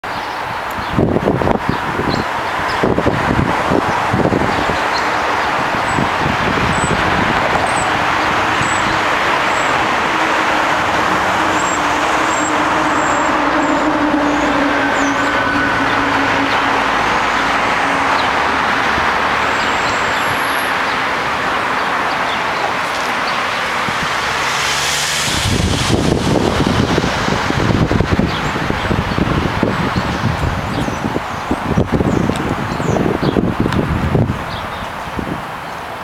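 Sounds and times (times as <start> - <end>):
road traffic noise: 0.0 - 36.0
vehicle engine droning: 1.0 - 35.4.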